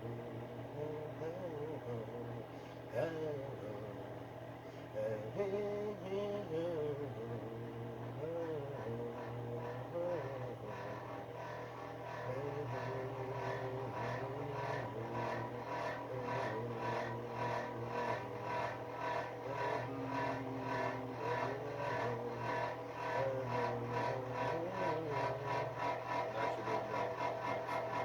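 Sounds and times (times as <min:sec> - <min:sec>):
heater fan humming: 0:00.0 - 0:28.0.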